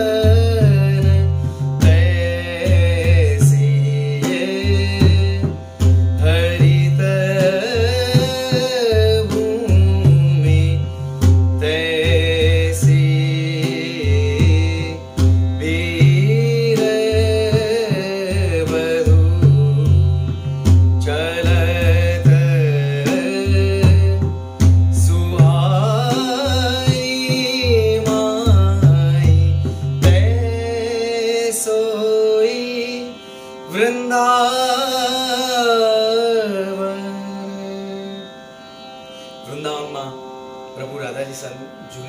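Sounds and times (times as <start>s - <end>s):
man singing devotional melody: 0.0s - 42.0s.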